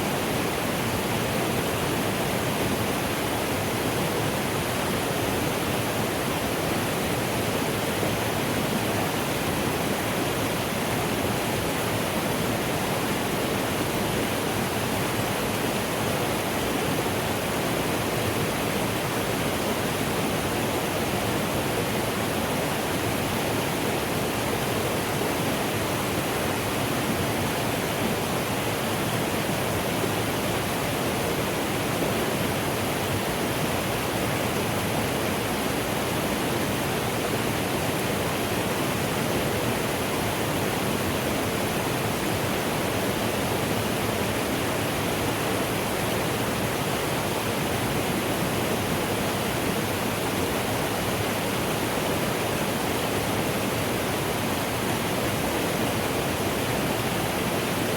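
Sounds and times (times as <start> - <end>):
mountain stream flowing: 0.0 - 57.9.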